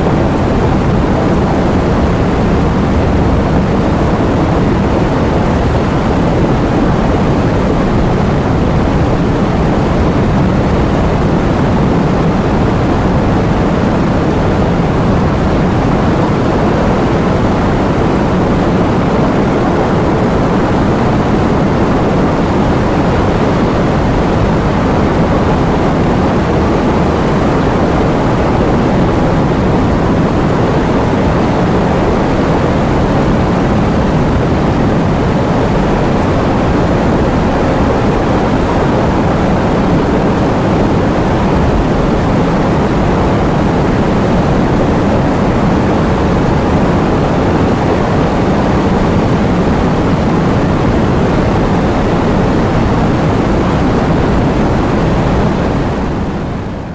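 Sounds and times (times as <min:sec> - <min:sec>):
heavy rain: 0:00.0 - 0:56.9
strong wind: 0:00.0 - 0:56.9.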